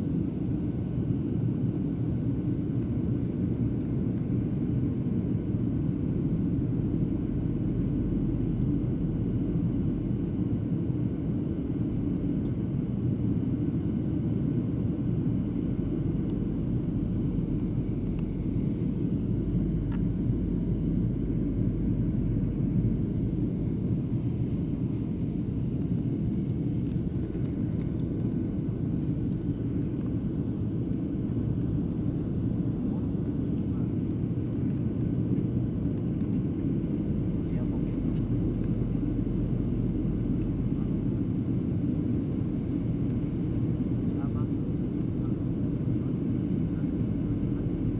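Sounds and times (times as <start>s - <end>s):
jet cabin rumble: 0.0s - 47.9s.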